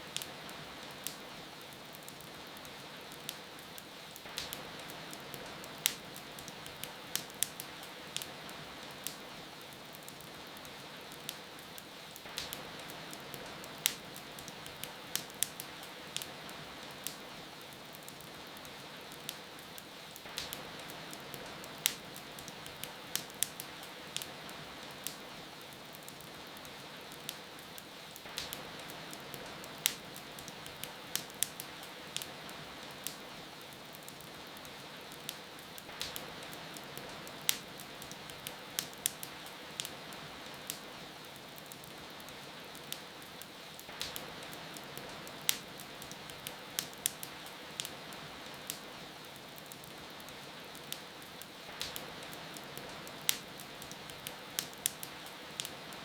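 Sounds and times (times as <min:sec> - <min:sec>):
steady rain: 0:00.0 - 0:56.0
wood fire crackling and popping: 0:00.0 - 0:56.0.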